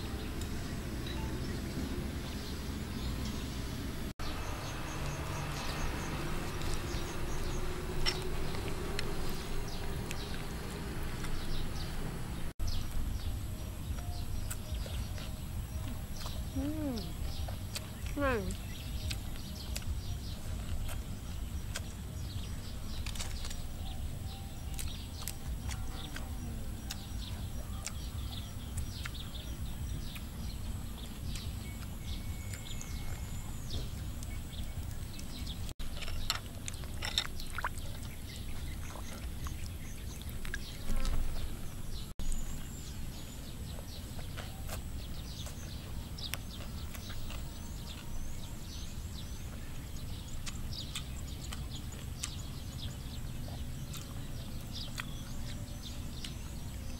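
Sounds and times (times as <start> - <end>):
birds chirping: 0.0 - 56.9
steady low rumble: 0.0 - 56.9.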